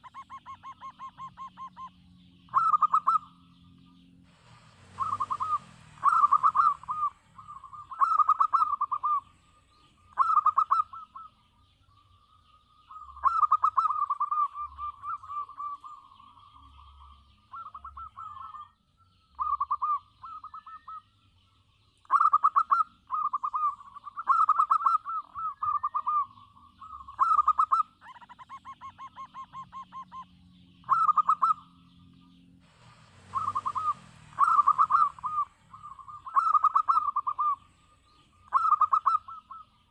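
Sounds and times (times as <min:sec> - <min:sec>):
dove cooing: 0:00.0 - 0:03.6, 0:04.4 - 0:11.4, 0:12.9 - 0:18.8, 0:19.4 - 0:21.0, 0:22.0 - 0:31.9, 0:32.7 - 0:39.9.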